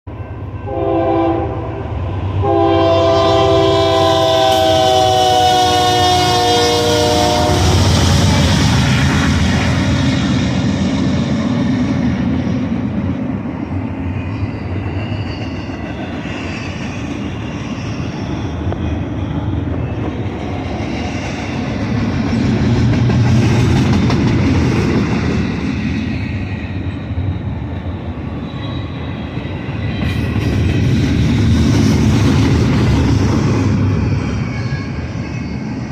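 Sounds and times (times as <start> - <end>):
freight train rumble and clatter: 0.1 - 35.9.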